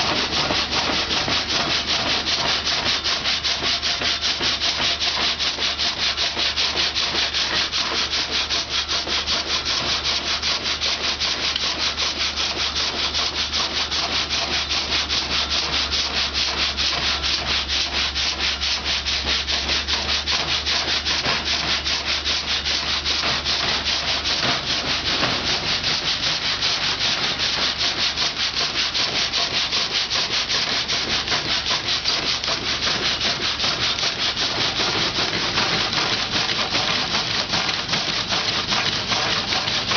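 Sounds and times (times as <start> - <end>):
saw rasping through wood: 0.0 - 39.9.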